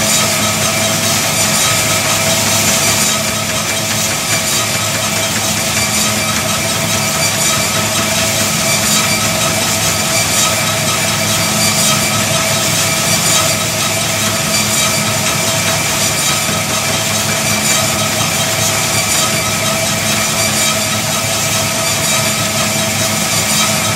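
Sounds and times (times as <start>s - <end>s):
treadmill belt hum: 0.0s - 23.9s
treadmill motor whine: 0.0s - 23.9s.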